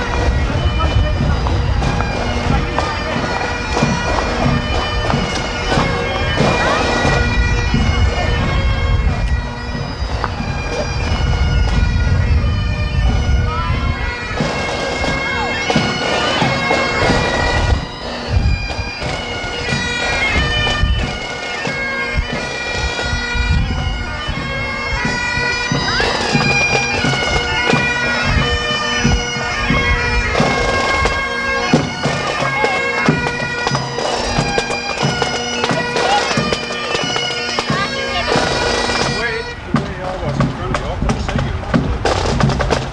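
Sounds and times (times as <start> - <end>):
bagpipes playing a tune: 0.0 - 42.9
drum beats: 0.0 - 42.9.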